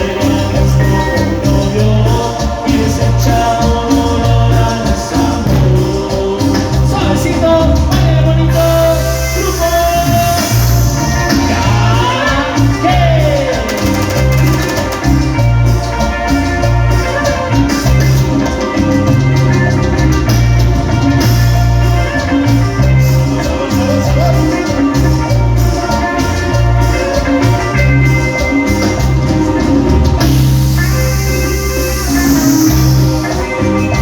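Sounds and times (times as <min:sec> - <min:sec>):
latin dance band playing: 0:00.0 - 0:34.0
shaker percussion: 0:00.0 - 0:34.0.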